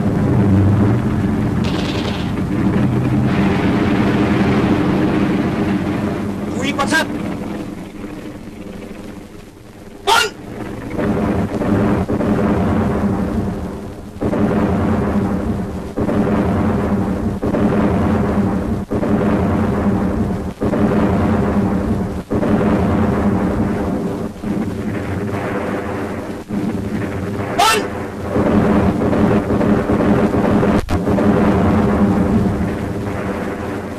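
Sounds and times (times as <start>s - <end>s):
heavy explosions with deep rumble: 0.0s - 33.9s.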